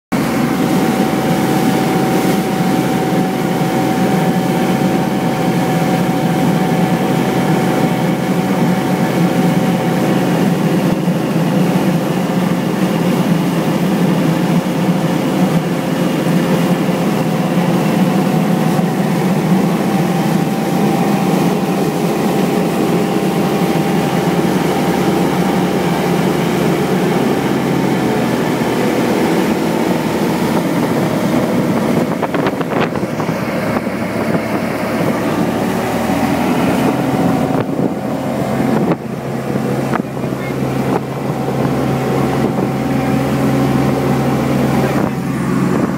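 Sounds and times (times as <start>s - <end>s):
motorboat engine running: 0.1s - 45.9s
wake rushing: 0.1s - 45.9s.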